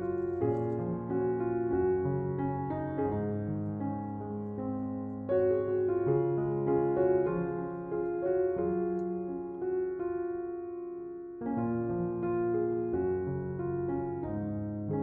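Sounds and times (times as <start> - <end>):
piano playing slow melody: 0.0 - 15.0.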